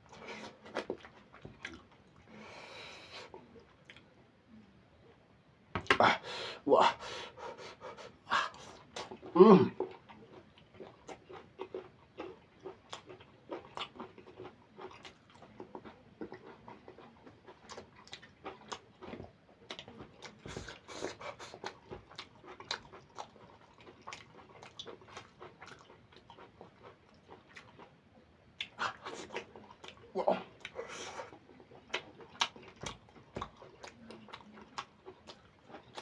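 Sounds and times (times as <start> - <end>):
person chewing wetly: 0.0 - 2.4, 3.3 - 4.1, 8.5 - 36.0.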